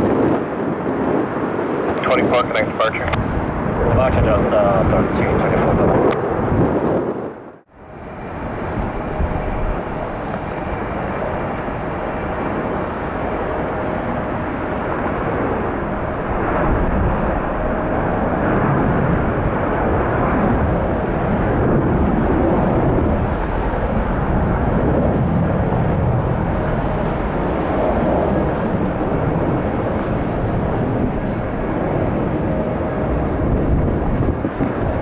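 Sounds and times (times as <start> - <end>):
jet engine rushing: 0.0 - 35.0
wind on microphone: 0.0 - 35.0.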